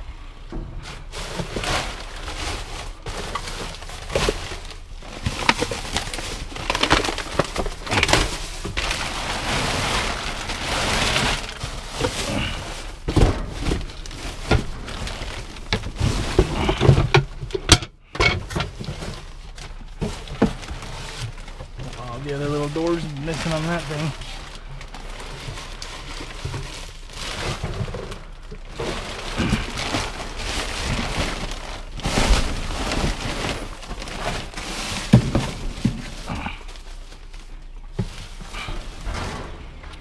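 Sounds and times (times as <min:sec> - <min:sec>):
trash knocking: 0:00.5 - 0:24.2, 0:25.3 - 0:40.0
plastic bags crinkling: 0:00.8 - 0:40.0.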